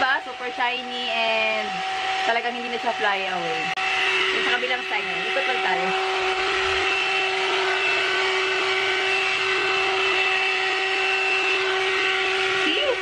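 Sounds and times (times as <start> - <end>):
hair dryer motor whine: 0.0 - 13.0.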